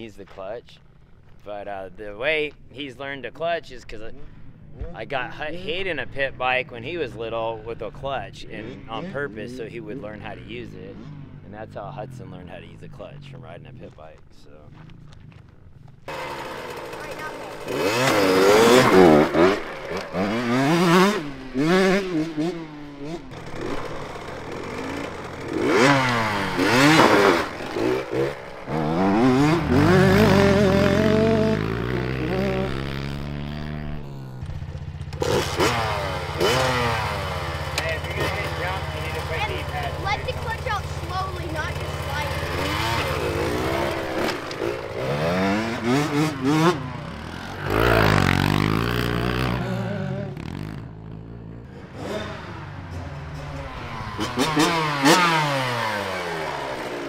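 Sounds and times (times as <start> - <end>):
two-stroke dirt bike engine revving: 6.2 - 13.7, 16.0 - 57.0.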